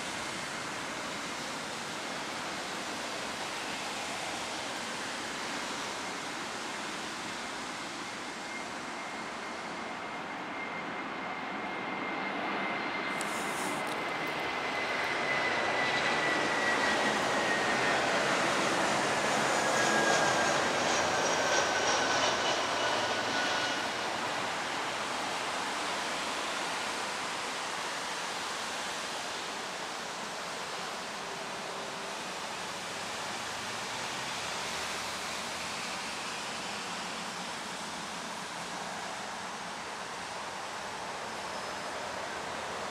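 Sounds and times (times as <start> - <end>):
jet airliner passing by: 0.0 - 42.9.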